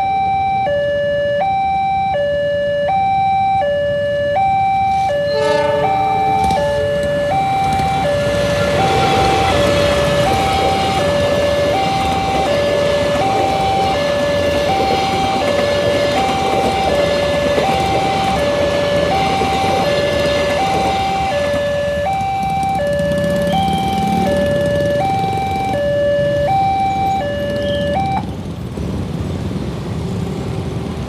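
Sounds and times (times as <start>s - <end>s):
level crossing alarm tones: 0.0s - 28.3s
train rumbling past: 4.8s - 31.0s.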